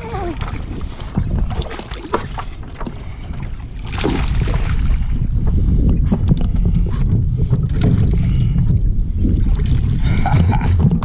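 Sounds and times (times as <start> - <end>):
water lapping: 0.0 - 11.0
wind rumble on microphone: 0.0 - 11.0.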